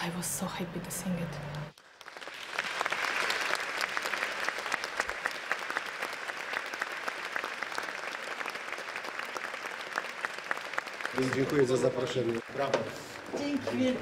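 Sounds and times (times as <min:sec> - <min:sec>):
audience applauding: 0:01.6 - 0:14.0.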